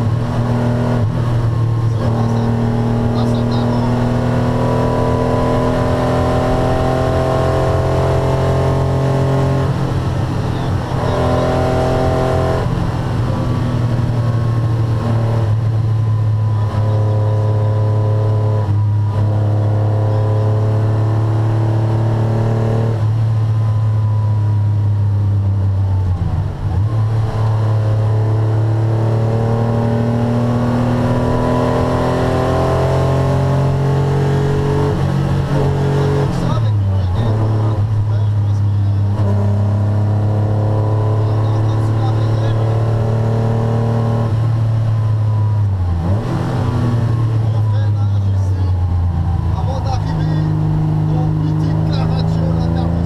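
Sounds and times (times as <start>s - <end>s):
car engine under load: 0.0s - 53.0s.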